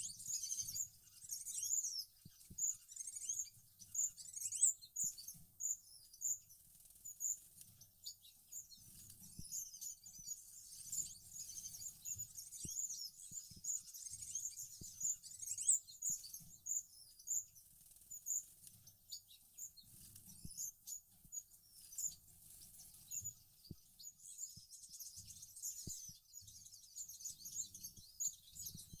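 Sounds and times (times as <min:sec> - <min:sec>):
finches chirping: 0:00.0 - 0:29.0.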